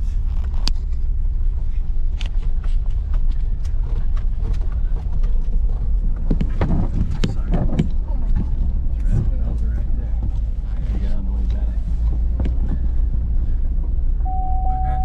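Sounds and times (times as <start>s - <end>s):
knocks and crunches from road: 0.0s - 14.0s
vehicle rumbling on rough road: 0.0s - 15.0s.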